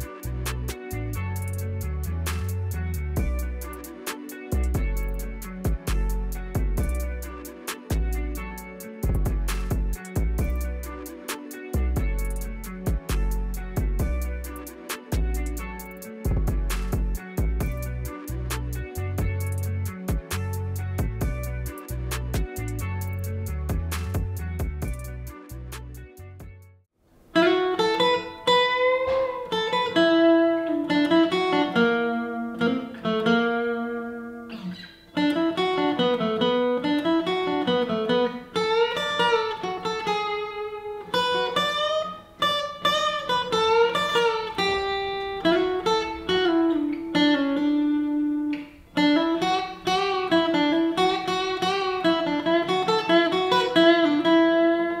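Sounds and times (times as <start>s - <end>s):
acoustic guitar picking melody: 0.0s - 55.0s.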